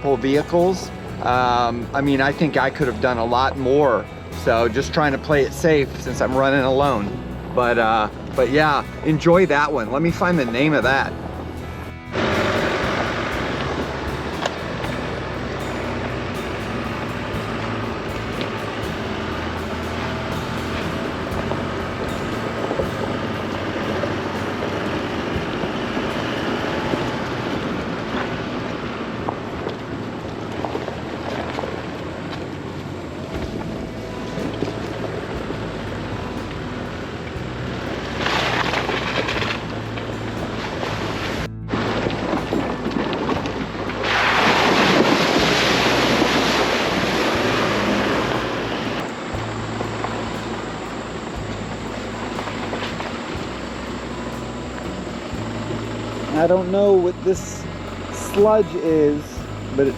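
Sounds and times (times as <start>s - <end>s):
low engine hum: 0.0s - 59.9s
truck driving on gravel: 0.0s - 59.9s
tyres and wind rushing: 0.0s - 59.9s.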